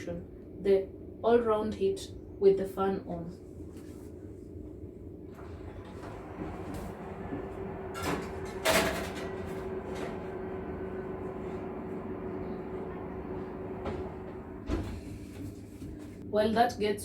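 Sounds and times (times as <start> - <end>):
fan oven humming: 0.0 - 17.0.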